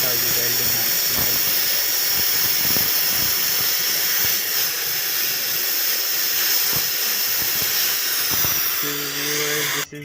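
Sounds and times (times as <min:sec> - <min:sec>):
welding torch flame hissing: 0:00.0 - 0:09.9.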